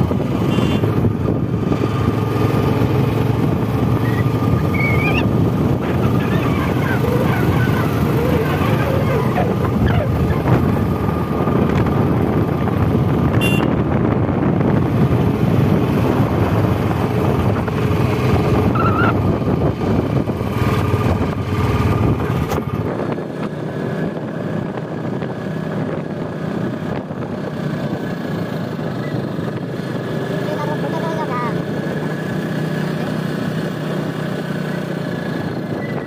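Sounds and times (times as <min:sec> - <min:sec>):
wind noise: 0:00.0 - 0:30.1
engine and road rumble: 0:00.0 - 0:36.0.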